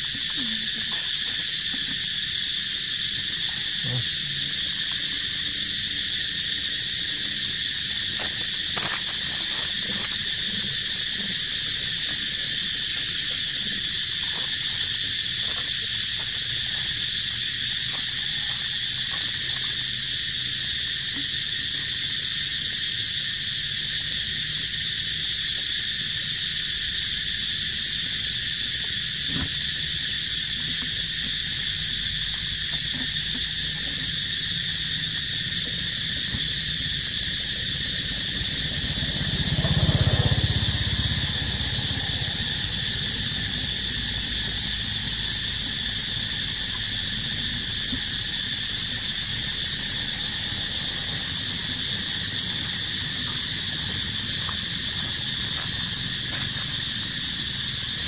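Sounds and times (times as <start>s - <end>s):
insects pulsing chorus: 0.0s - 58.0s.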